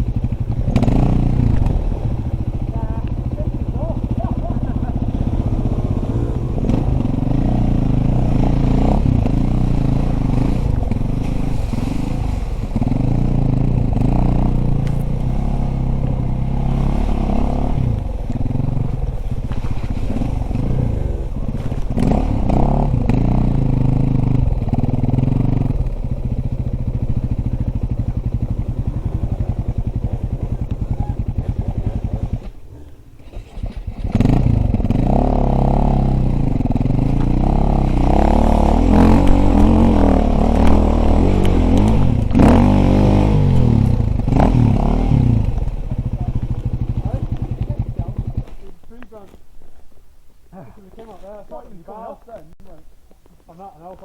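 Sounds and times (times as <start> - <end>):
dirt bike engine revving: 0.0 - 49.4.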